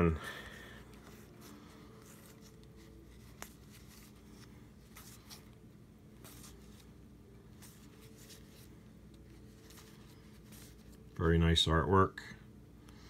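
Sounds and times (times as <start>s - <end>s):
cards rustling and sliding: 0.0s - 11.2s
low steady hum: 0.0s - 13.0s.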